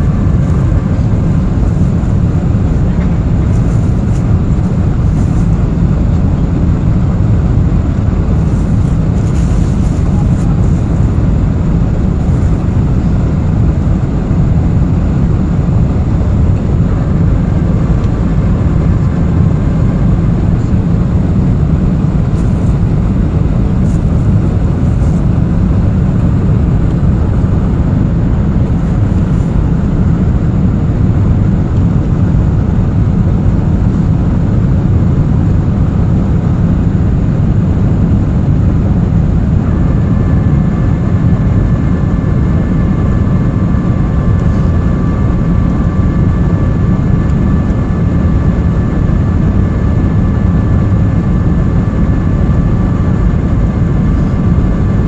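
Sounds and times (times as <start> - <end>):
aircraft engines rumbling in cabin: 0.0 - 55.0
faint steady whine: 0.0 - 55.0.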